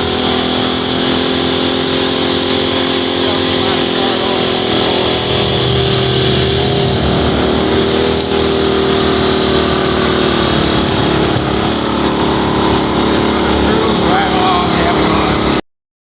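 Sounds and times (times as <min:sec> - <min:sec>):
tractor engine running: 0:00.0 - 0:15.6.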